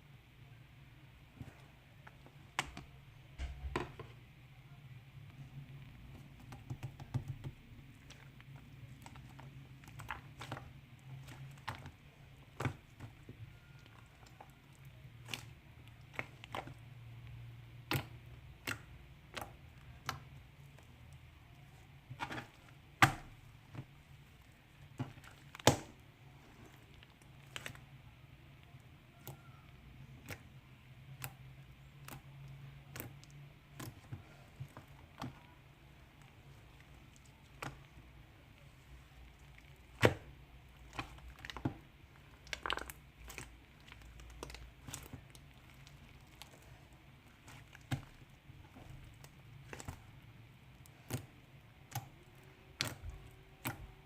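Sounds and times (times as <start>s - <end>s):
faint slime squishing: 0.0s - 54.0s.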